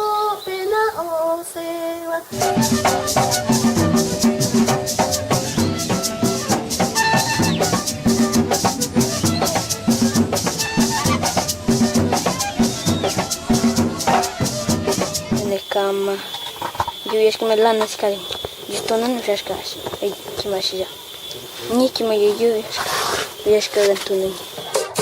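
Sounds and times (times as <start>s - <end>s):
instrumental music with shaker and drums: 2.3s - 25.0s.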